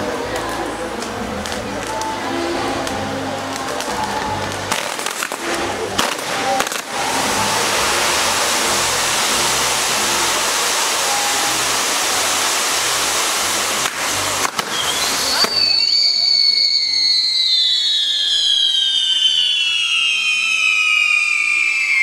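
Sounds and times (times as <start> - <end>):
fireworks rushing hiss: 0.0 - 22.0
firework bangs: 0.4 - 22.0.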